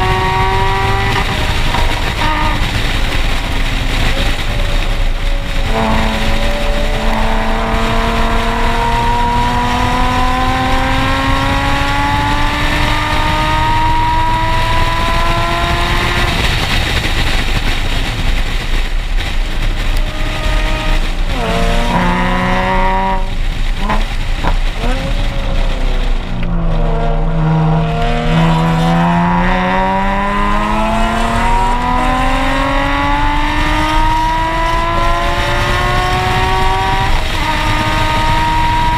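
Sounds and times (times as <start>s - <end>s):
car exhaust note climbing: 0.0s - 38.9s
low rumble of wind and road: 0.0s - 38.9s.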